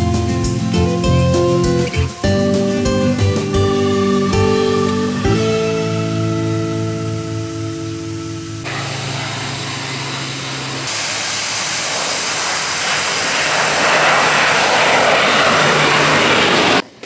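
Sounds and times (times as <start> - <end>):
low-flying airplane engine drone: 0.0 - 17.0.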